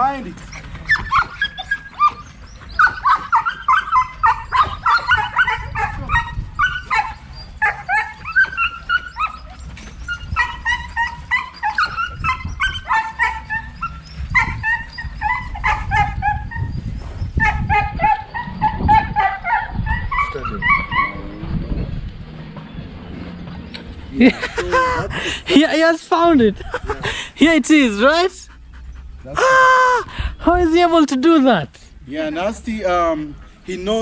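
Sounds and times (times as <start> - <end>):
dogs barking and yipping: 0.0 - 34.0.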